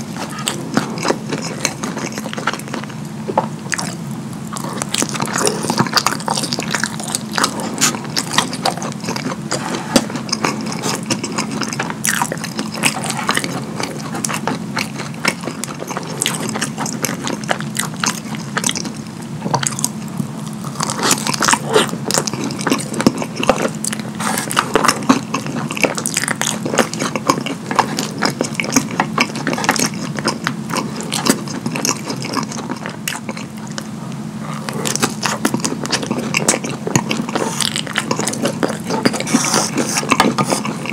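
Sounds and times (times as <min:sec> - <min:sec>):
open-mouth chewing and lip smacking: 0:00.1 - 0:40.9.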